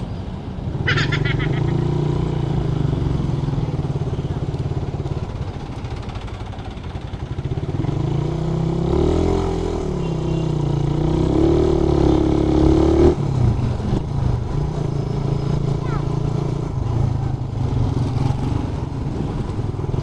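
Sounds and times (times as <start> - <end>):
motorcycle engine accelerating: 0.9 - 20.0.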